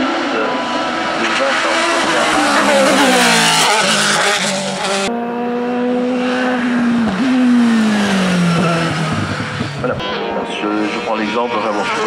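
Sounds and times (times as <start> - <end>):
racing car engine high note: 0.0 - 12.0
racing car engine passing: 0.0 - 12.0.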